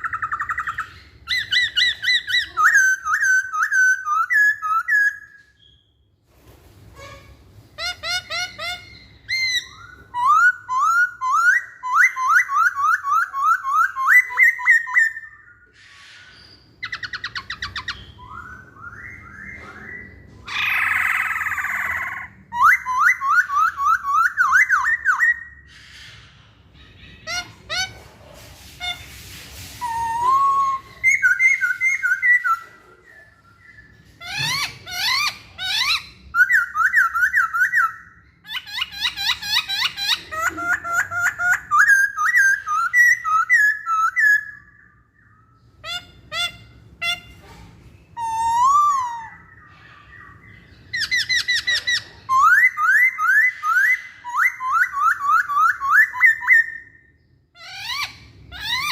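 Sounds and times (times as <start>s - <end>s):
bird whistled song: 0.0s - 6.2s, 7.8s - 27.9s, 28.8s - 47.4s, 48.0s - 58.9s.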